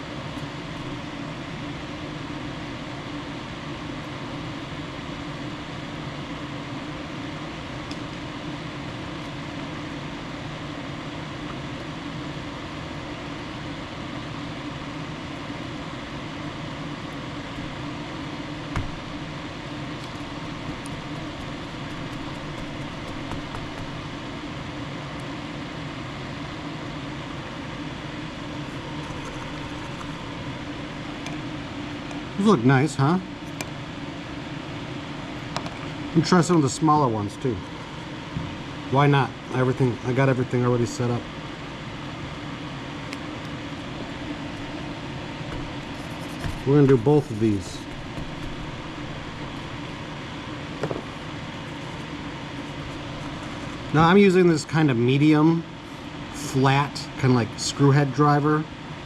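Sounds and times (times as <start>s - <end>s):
fan noise with low hum: 0.0s - 59.0s.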